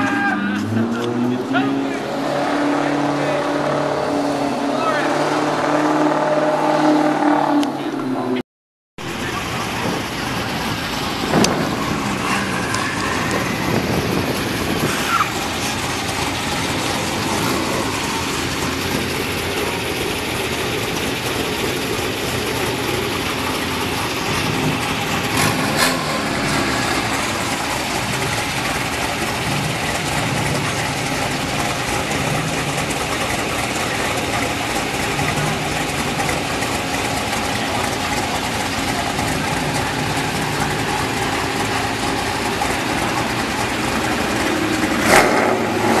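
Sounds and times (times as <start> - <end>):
car engines idling: 0.0 - 8.4, 9.0 - 46.0.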